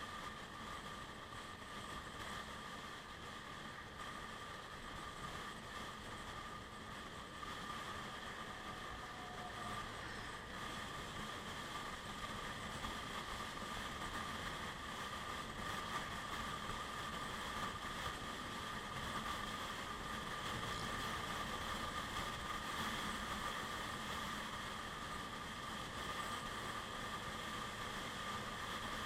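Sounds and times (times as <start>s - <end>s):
motor scooter running: 4.3s - 29.0s.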